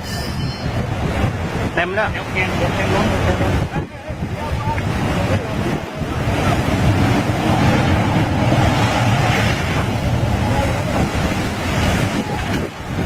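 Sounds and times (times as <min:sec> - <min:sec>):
sea water rushing: 0:00.0 - 0:13.0
wind buffeting microphone: 0:00.0 - 0:13.0.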